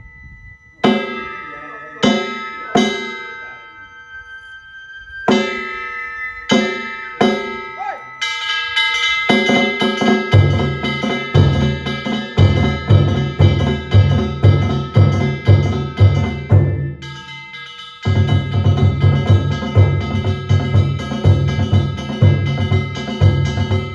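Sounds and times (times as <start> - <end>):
metal gongs ringing: 0.0 - 23.9
drum beating: 0.8 - 3.4, 5.3 - 17.4, 18.0 - 23.9.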